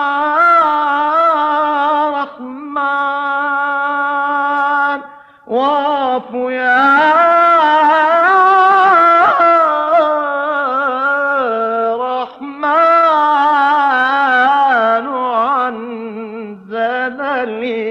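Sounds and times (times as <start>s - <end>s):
man singing melismatic chant: 0.0s - 17.9s.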